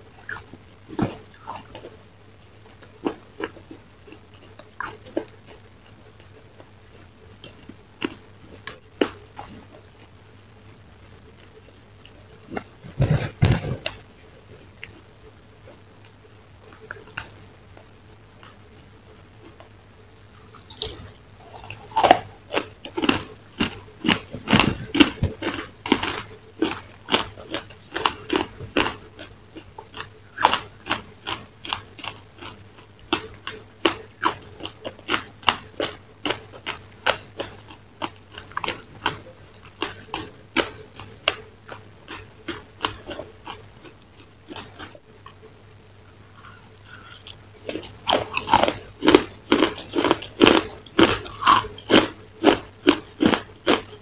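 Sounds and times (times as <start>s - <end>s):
mouth chewing crunchy dessert: 0.0s - 10.2s, 11.4s - 19.7s, 20.3s - 54.0s.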